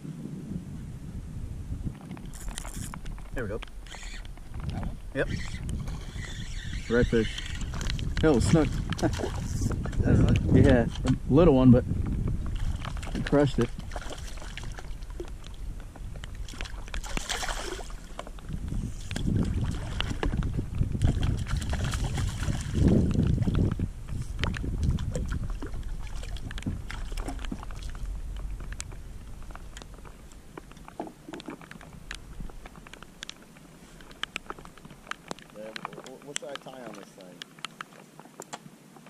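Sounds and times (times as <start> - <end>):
wind rumbling on microphone: 0.0 - 39.0
small knocks and clicks from boat: 1.9 - 11.2, 12.0 - 39.0
water sloshing against kayak hull: 1.9 - 11.4, 12.0 - 39.0.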